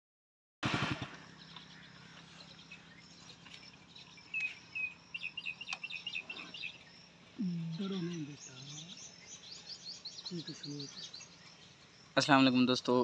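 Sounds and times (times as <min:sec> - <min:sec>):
bird chirping: 0:01.0 - 0:13.0.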